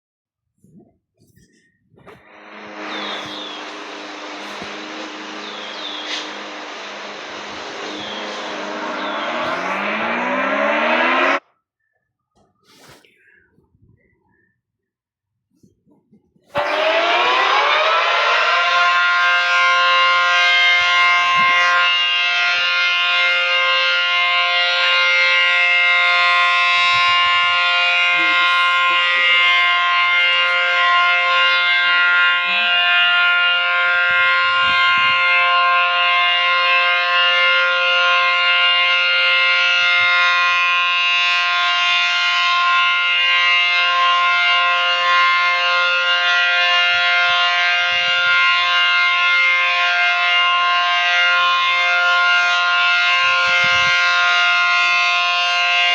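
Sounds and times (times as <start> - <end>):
warning siren steady tone: 0.6 - 12.6, 15.6 - 55.9.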